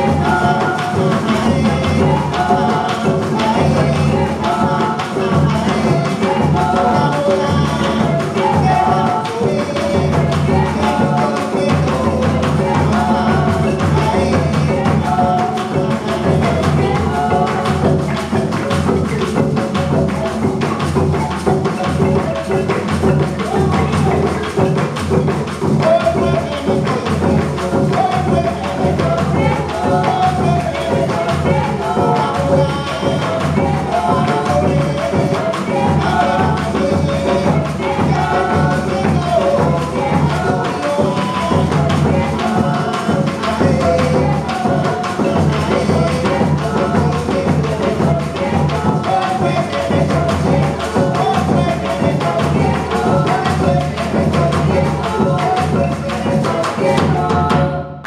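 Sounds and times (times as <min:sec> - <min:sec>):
bass drum: 0:00.0 - 0:57.8
hand drums: 0:00.0 - 0:58.0
marimba: 0:00.0 - 0:58.0
people singing: 0:00.0 - 0:58.0.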